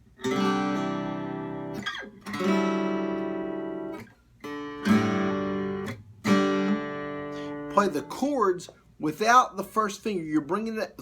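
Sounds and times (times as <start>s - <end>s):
acoustic guitar strumming chords: 0.2s - 9.9s.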